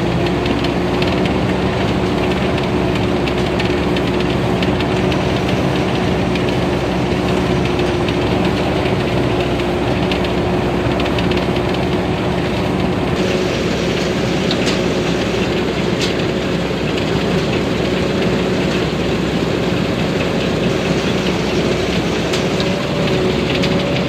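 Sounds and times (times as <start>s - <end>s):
combine harvester engine hum: 0.0s - 24.0s
fast mechanical clatter: 0.0s - 24.0s.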